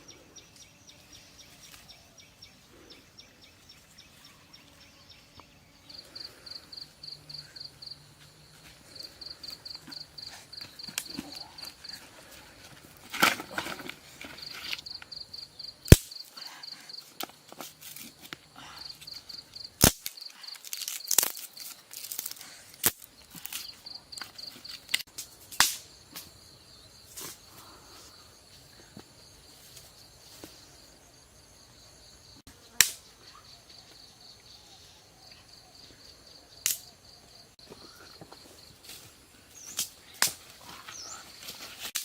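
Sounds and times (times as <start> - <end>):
insect chirping: 0.0 - 42.0.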